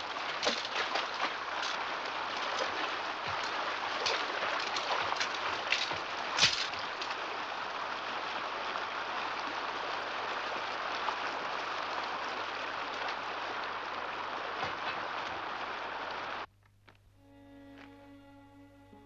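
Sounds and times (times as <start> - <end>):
shallow stream flowing: 0.0 - 16.5.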